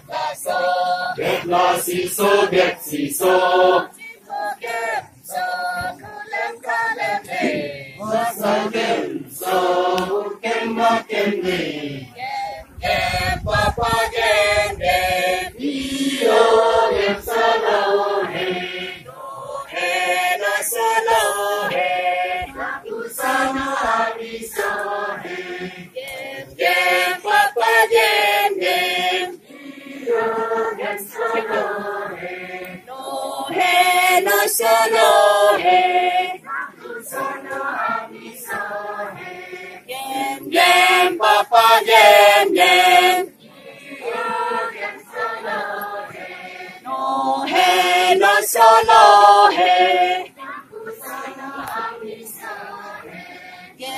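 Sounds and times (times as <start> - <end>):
group singing a dance song: 0.0 - 53.9.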